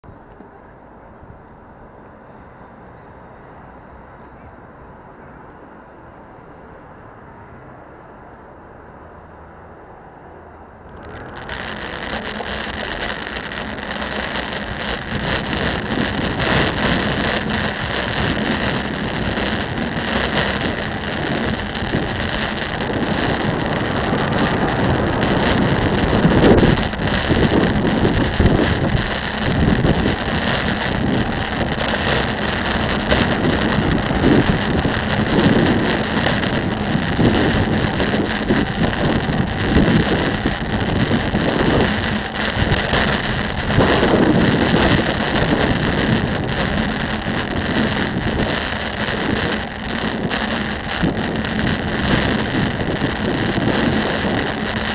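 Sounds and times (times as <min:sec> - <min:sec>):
lorry diesel engine: 0:00.0 - 0:54.9
road and traffic noise: 0:00.0 - 0:54.9
wind buffeting microphone: 0:10.8 - 0:54.9.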